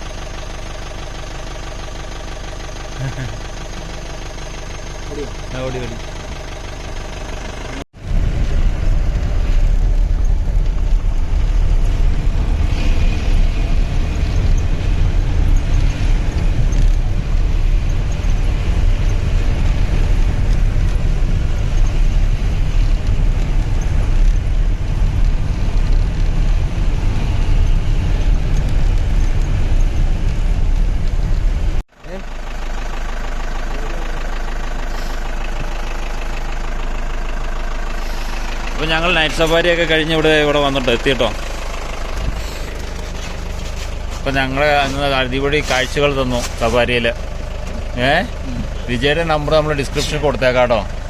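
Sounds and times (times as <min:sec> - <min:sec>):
road noise: 0:00.0 - 0:51.0
vehicle engine rumble: 0:00.0 - 0:51.0.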